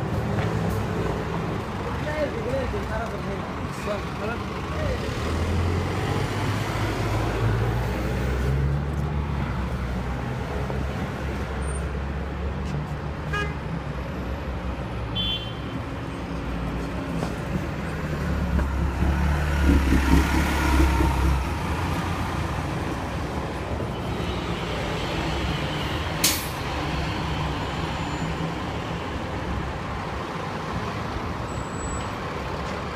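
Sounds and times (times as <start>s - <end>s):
heavy vehicles running: 0.0s - 15.2s, 15.8s - 32.9s
low traffic rumble: 0.0s - 32.9s.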